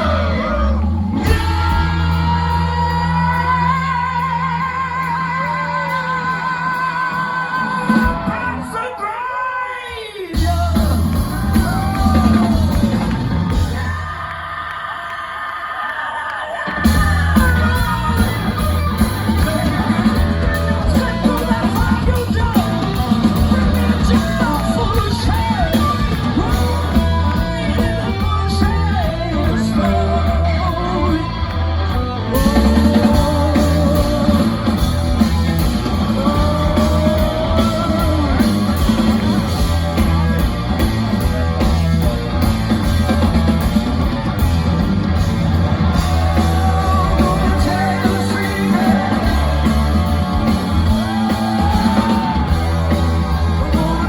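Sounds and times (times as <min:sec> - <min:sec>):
electric guitar: 0:00.0 - 0:08.8, 0:10.3 - 0:14.4, 0:16.6 - 0:54.0
drums: 0:00.0 - 0:54.0
male lead singer: 0:00.0 - 0:54.0.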